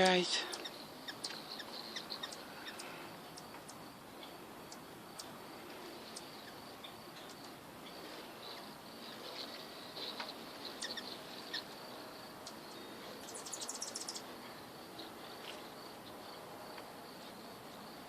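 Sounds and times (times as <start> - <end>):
hummingbird chip notes: 0.0 - 15.2
outdoor hiss: 0.0 - 18.0.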